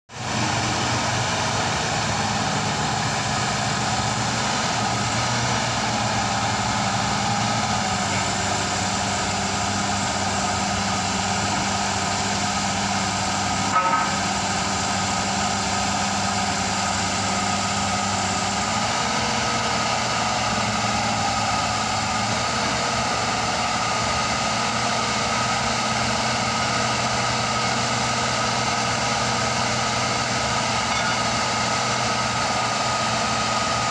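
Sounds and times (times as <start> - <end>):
drilling rig engine running: 0.1 - 33.9.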